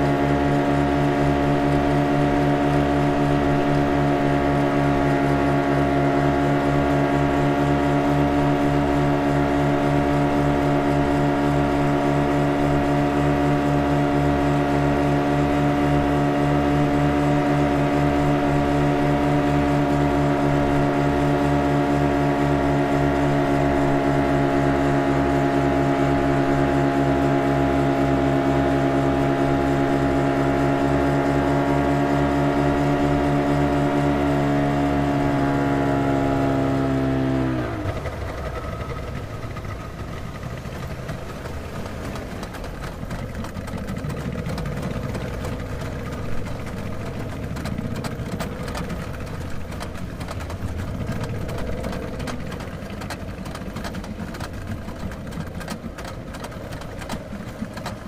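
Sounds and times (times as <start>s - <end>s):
motorboat engine running hard: 0.0s - 58.0s.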